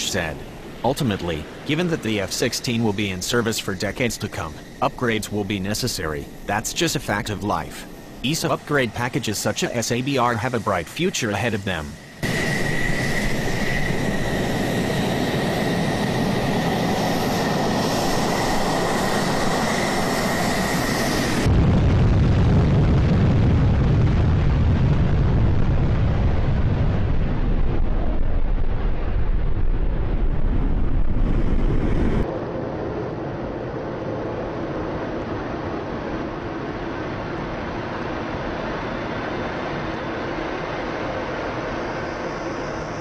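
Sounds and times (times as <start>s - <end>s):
cockpit engine and air noise: 0.0s - 43.0s
jet engine roaring: 0.0s - 43.0s.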